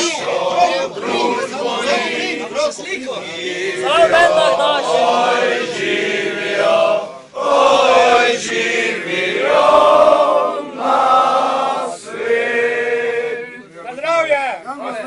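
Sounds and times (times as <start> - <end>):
men singing together: 0.0 - 13.6.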